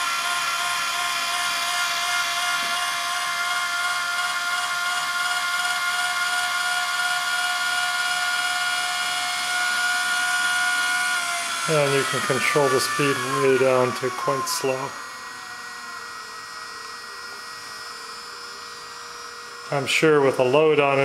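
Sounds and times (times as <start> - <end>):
gearmotor whining: 0.0 - 21.0.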